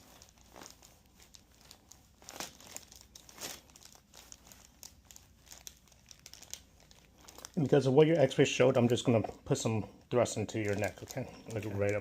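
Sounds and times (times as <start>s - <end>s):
soft crinkling rustles: 0.0s - 12.0s.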